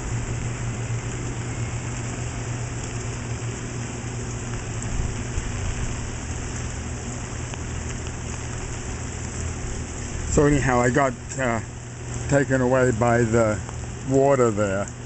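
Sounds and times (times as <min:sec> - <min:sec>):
rain pattering on umbrella: 0:00.0 - 0:12.3
steady low hum: 0:00.0 - 0:15.0.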